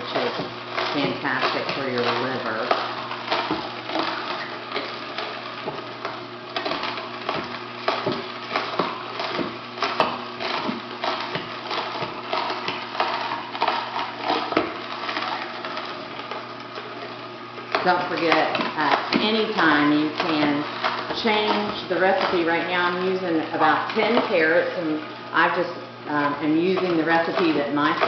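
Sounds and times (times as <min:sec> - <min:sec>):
electric juicer motor hum: 0:00.0 - 0:28.0.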